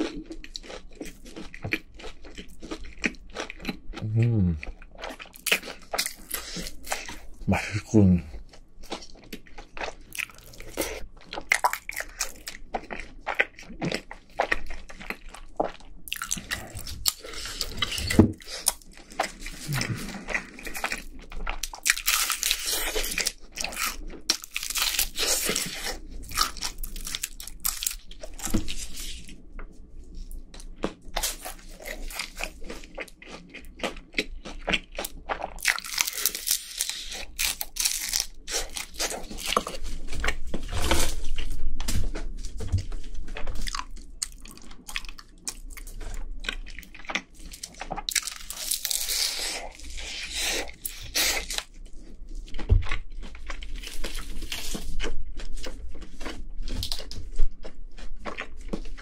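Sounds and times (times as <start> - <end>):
fried chicken crunching: 0.0 - 29.2, 30.6 - 42.3, 43.2 - 59.0
wet chewing: 0.0 - 59.0.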